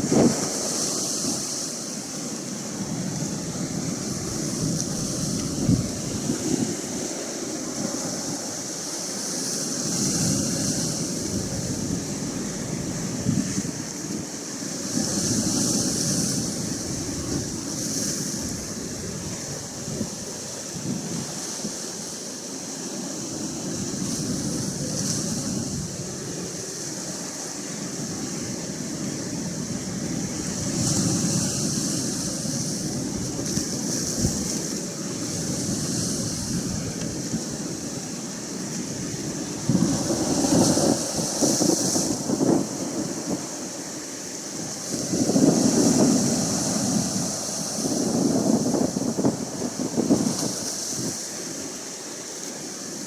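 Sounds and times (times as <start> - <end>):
wind noise on microphone: 0.0 - 22.2, 22.9 - 53.0
wave breaking: 0.0 - 22.4, 23.0 - 53.0
low rumble of waves: 0.0 - 53.0
ocean surf washing in: 0.0 - 53.0.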